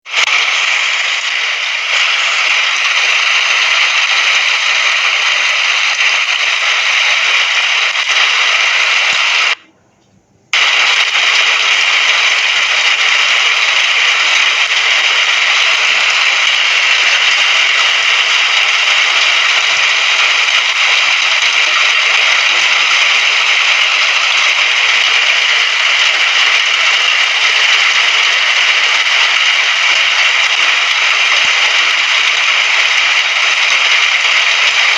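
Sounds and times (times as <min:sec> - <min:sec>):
steady rainfall: 0:00.0 - 0:09.6, 0:10.6 - 0:34.9.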